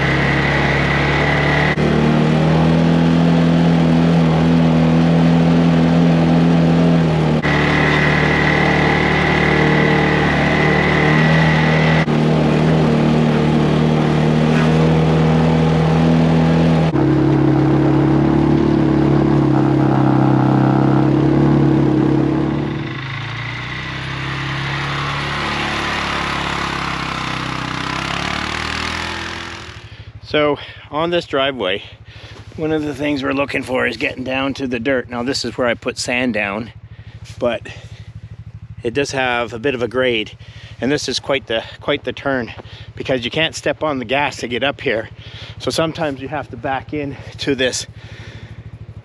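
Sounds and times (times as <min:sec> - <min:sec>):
atv engine under load: 0:00.0 - 0:49.0.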